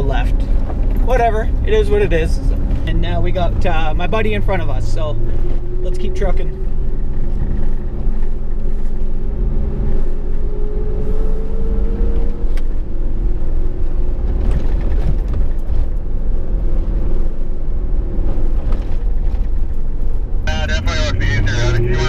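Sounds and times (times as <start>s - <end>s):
tyres rumbling on dirt track: 0.0s - 10.3s, 11.7s - 22.0s
truck engine from inside cab: 0.0s - 22.0s.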